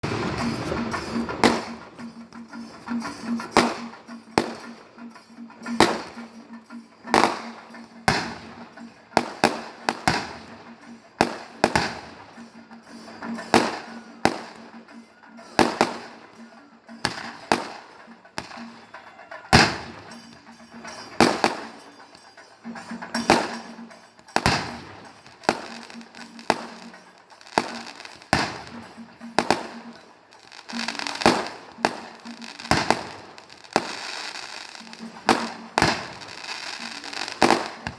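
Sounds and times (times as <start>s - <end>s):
firecrackers bursting: 0.0s - 37.9s.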